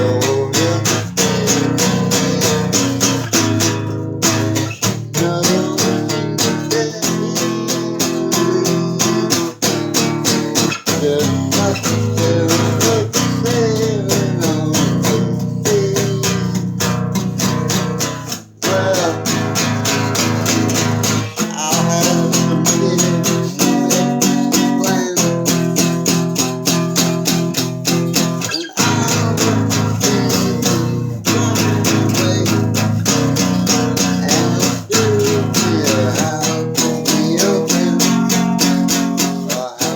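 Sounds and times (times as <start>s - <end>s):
guitar picking a melody: 0.0s - 39.9s.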